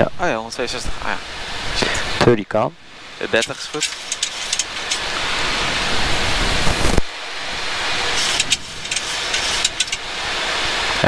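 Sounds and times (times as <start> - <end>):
cockpit airflow and engine noise: 0.1 - 11.0
steady hiss: 0.5 - 11.0.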